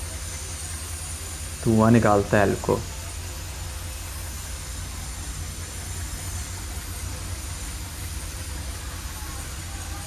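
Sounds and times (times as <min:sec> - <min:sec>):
diesel locomotive engine rumble: 0:00.0 - 0:10.0.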